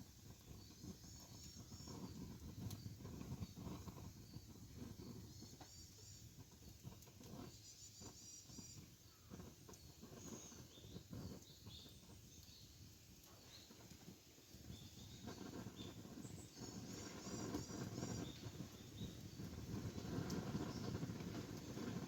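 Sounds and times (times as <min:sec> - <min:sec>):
wood fire crackling: 0:00.0 - 0:22.0
small birds chirping: 0:00.2 - 0:22.0.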